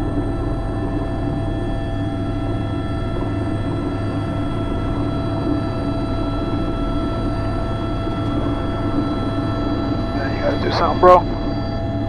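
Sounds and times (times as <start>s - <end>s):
helicopter rotor rumble: 0.0s - 12.0s
high turbine whine: 0.0s - 12.0s.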